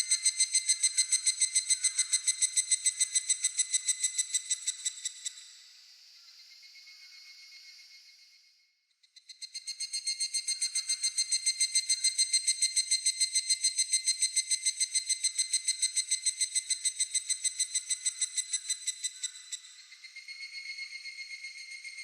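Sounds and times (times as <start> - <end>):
cicada pulsing trill: 0.0 - 5.4, 9.2 - 22.0.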